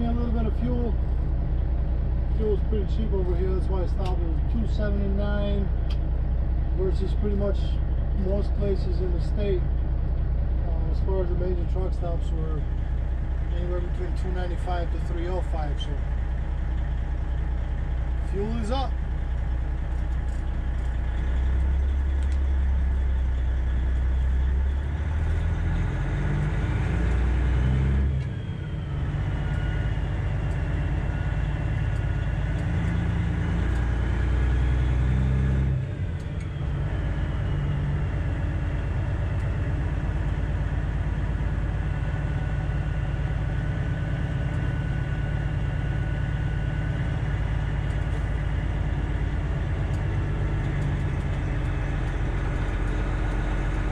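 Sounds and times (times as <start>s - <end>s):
truck diesel engine revving: 0.0s - 53.9s.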